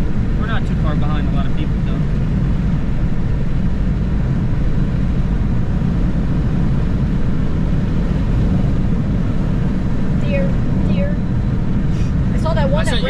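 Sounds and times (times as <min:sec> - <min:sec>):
car cabin road and engine drone: 0:00.0 - 0:13.0.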